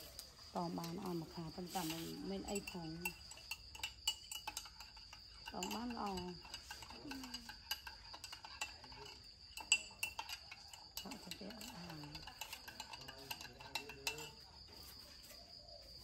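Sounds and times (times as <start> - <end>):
spoon clinking in a mug: 0.6 - 15.0.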